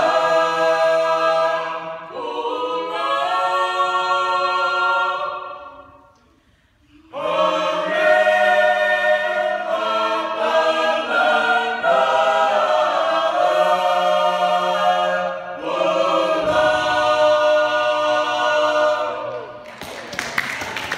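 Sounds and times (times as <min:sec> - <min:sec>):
choir singing a cappella: 0:00.0 - 0:19.6.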